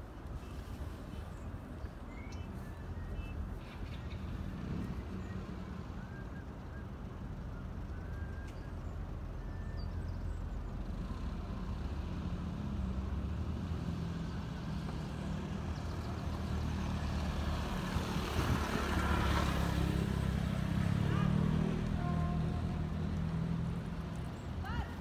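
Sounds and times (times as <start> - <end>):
distant city traffic rumble: 0.0 - 25.0.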